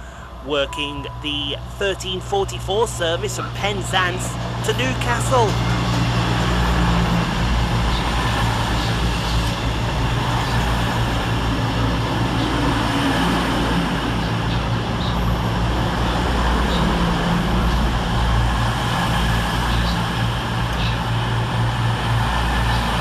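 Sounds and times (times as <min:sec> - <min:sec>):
diesel engines humming: 0:00.0 - 0:23.0
train wheels on rails: 0:02.8 - 0:23.0.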